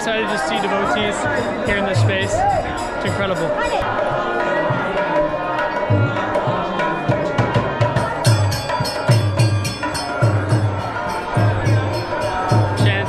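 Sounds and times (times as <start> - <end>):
devotional music: 0.0 - 13.0.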